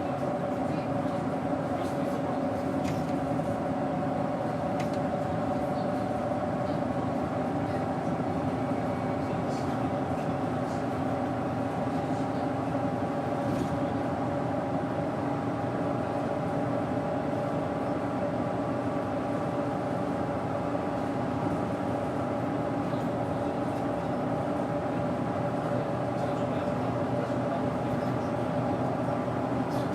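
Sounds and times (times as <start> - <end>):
bus engine running steadily: 0.0 - 29.9.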